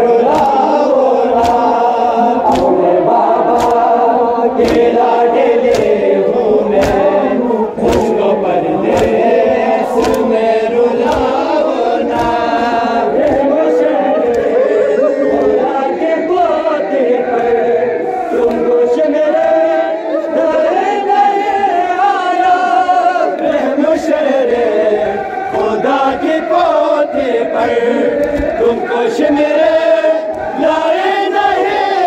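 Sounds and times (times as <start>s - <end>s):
men chanting in unison: 0.0s - 32.0s.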